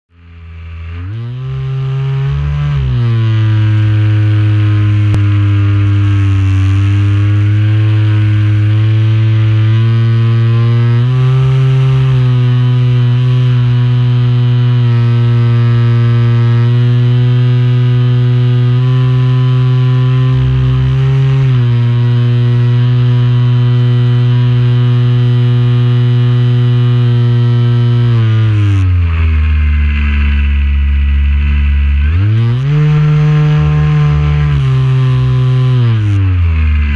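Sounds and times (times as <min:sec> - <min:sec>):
model airplane motor droning: 0:00.2 - 0:36.9.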